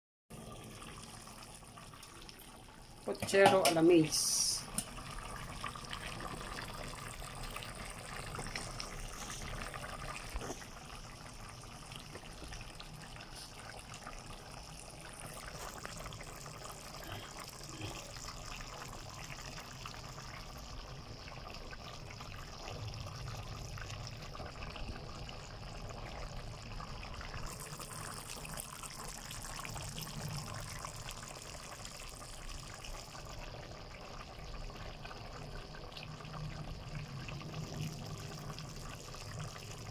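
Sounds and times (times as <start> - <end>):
stew bubbling in a pan: 0.3 - 39.9.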